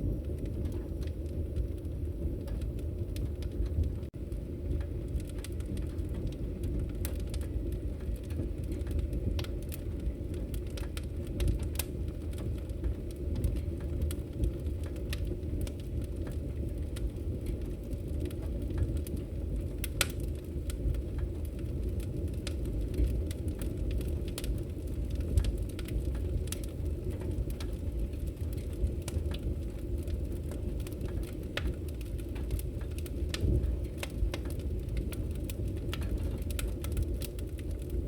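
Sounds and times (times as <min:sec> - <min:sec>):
log fire crackling: 0:00.0 - 0:38.0.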